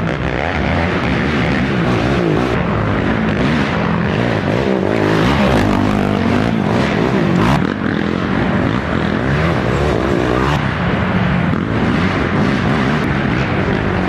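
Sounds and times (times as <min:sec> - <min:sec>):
atv engines revving: 0:00.0 - 0:14.0.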